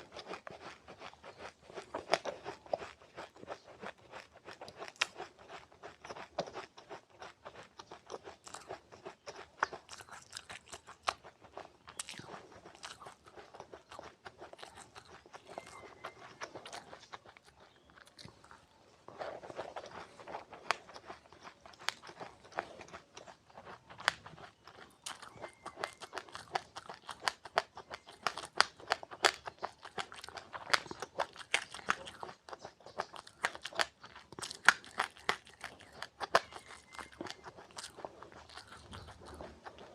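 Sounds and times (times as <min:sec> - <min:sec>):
person chewing crunchy seeds: 0:00.0 - 0:39.9.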